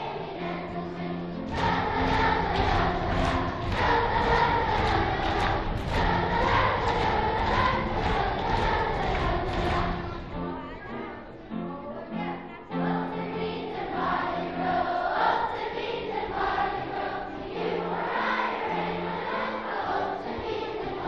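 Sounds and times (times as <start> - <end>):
country dance song with singing: 0.0 - 21.0.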